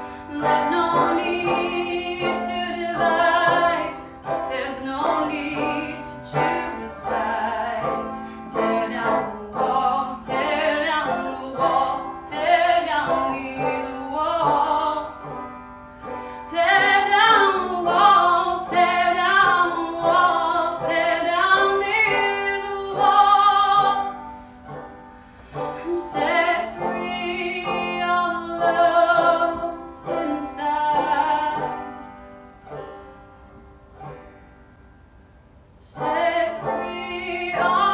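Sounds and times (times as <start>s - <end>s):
woman singing: 0.0s - 15.5s, 16.4s - 24.7s, 25.7s - 32.0s, 35.8s - 37.9s
banjo strumming and plucking: 0.0s - 37.9s.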